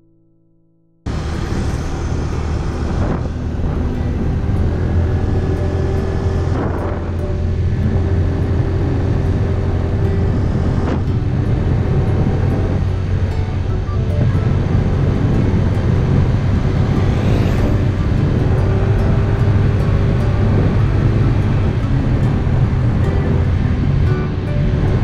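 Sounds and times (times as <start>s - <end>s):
motorbike engine running: 1.1s - 25.0s.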